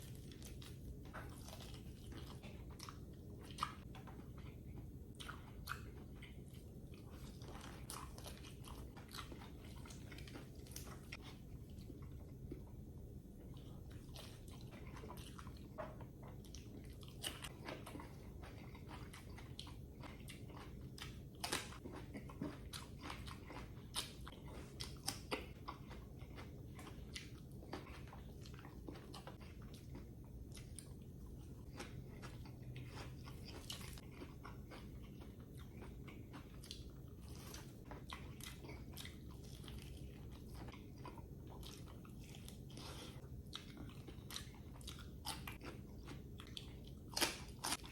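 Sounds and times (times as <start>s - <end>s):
crunchy chewing: 0.0s - 12.8s, 13.4s - 47.9s.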